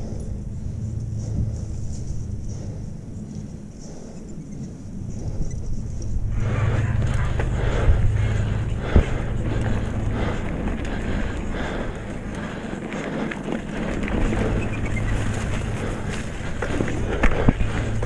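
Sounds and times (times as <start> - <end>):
bike tyre and frame rumble: 0.0 - 18.0
wind buffeting microphone: 0.0 - 18.0.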